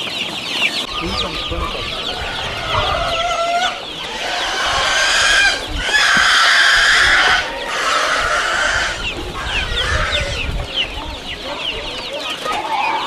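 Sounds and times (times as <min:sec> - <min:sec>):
chickens calling: 0:00.0 - 0:13.0
chicks peeping: 0:00.0 - 0:13.0.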